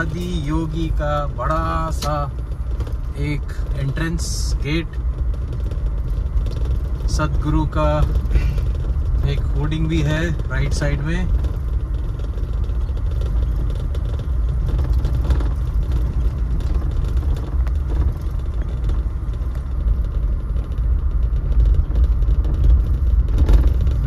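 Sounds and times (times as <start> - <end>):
car driving on gravel road: 0.0 - 24.0
faint rattles: 0.0 - 24.0.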